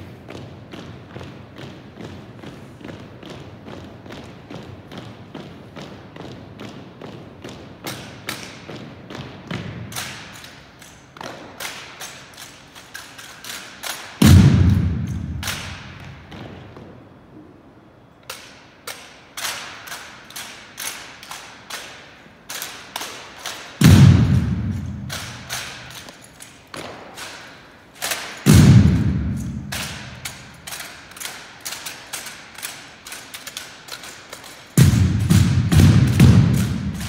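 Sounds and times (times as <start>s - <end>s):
rifles clacking and slapping: 2.0s - 16.9s, 18.2s - 37.0s.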